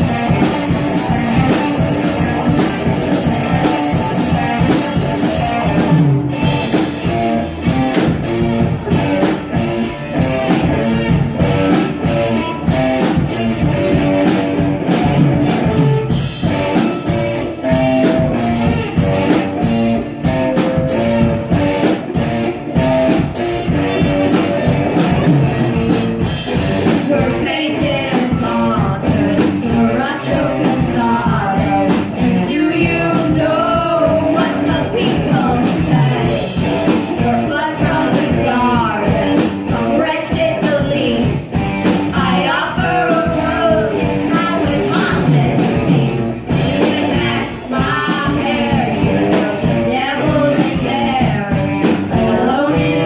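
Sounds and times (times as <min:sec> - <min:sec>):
rock song with singing: 0:00.0 - 0:53.0.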